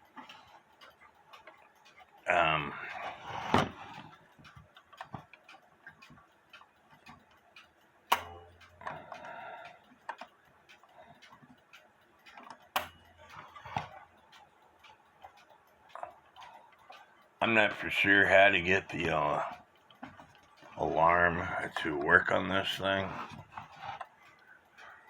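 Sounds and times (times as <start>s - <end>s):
alarm clock ticking: 0.0s - 25.0s.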